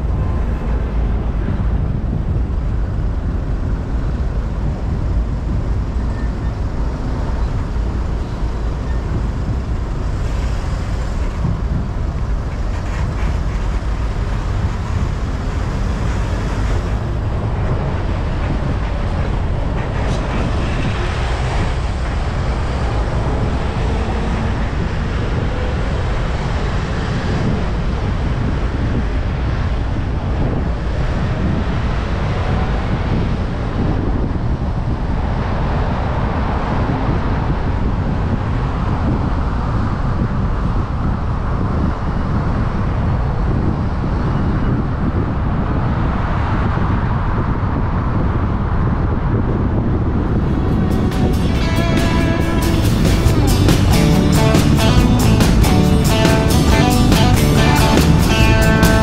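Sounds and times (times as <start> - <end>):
tyre rumble and traffic: 0.0 - 59.0
wind on microphone: 0.0 - 59.0.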